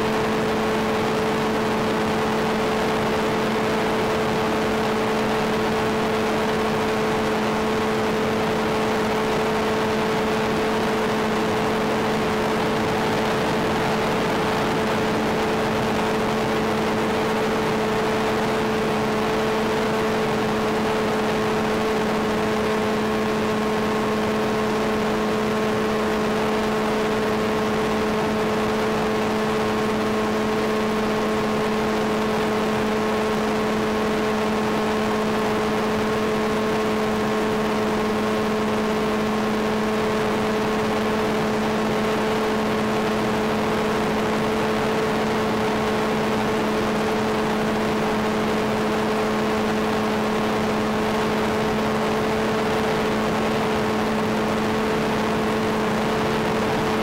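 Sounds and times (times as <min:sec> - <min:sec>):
electric motor propeller whine: 0:00.0 - 0:57.0.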